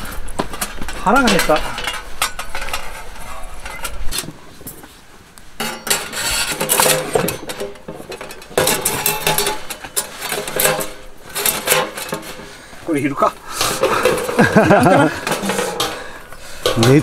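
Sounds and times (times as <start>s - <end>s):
metal grill plates clinking: 0.6s - 4.2s, 5.6s - 17.0s.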